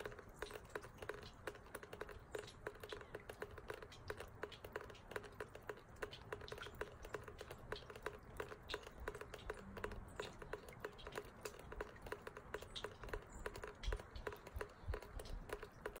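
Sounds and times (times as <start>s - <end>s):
water dripping down rain chain: 0.0s - 16.0s.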